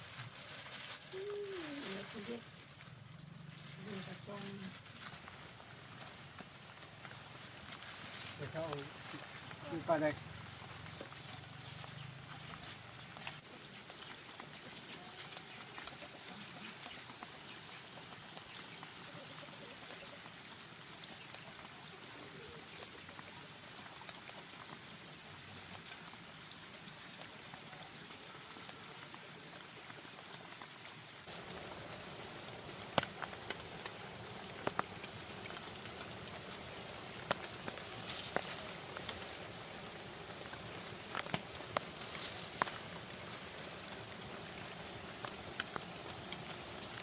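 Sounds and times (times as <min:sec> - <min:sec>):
insects droning: 0:00.0 - 0:47.0
outdoor background noise: 0:00.0 - 0:47.0.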